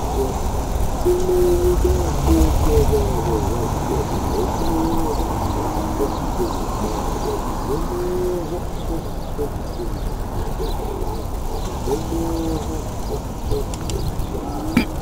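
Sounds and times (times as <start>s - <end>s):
bicycle road noise: 0.0s - 15.0s.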